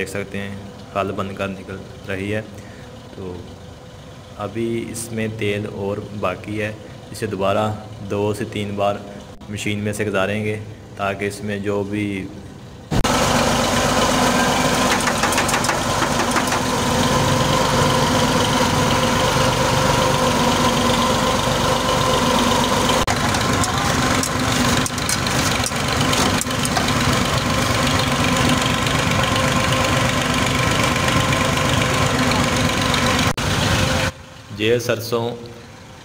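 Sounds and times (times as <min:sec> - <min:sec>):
tractor diesel engine running: 0:00.0 - 0:11.0, 0:12.4 - 0:36.0.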